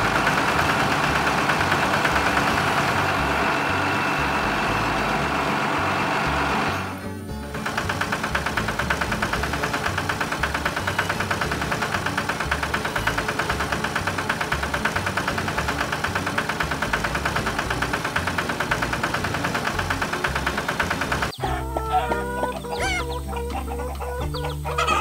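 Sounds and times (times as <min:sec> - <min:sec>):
cartoon machine pulsing: 0:00.0 - 0:25.0.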